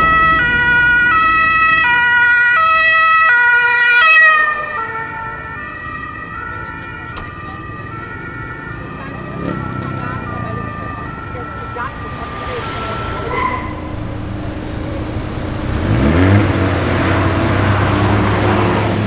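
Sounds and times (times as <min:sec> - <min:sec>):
two-tone siren: 0:00.0 - 0:19.0.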